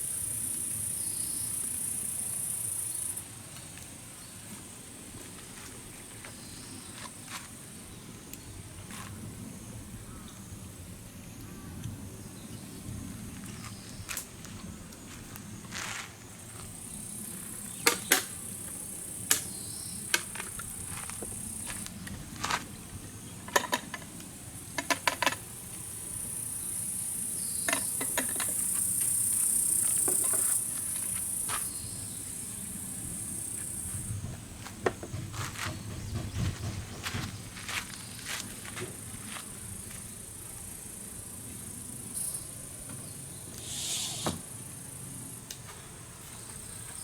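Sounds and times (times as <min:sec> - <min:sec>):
crickets droning: 0:00.0 - 0:47.0.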